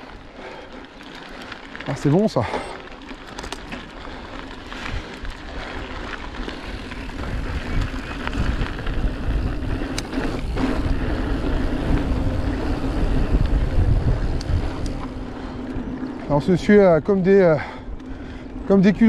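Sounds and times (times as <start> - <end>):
mountain bike rumbling and rattling: 0.0 - 19.0
wind buffeting microphone: 3.3 - 19.0.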